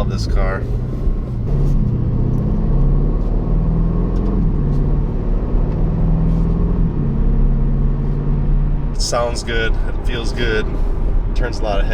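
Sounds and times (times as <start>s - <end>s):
car engine and exhaust running: 0.0s - 11.9s.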